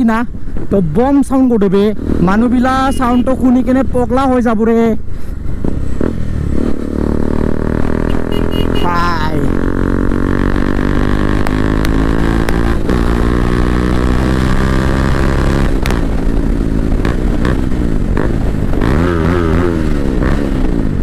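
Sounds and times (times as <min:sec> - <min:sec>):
motorcycle engine revving: 0:01.7 - 0:04.4, 0:05.4 - 0:21.0.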